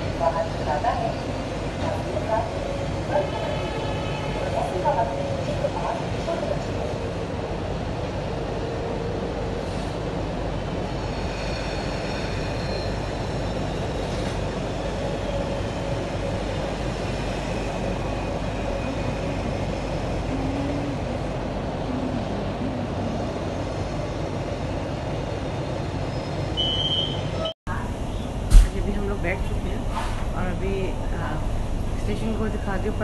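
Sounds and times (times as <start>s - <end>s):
train rumbling inside carriage: 0.0s - 33.0s.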